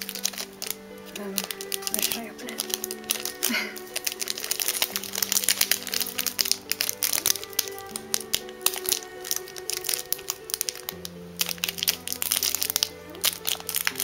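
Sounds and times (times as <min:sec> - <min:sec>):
background music with held notes: 0:00.0 - 0:14.0
plastic wrapper crinkling: 0:00.0 - 0:14.0.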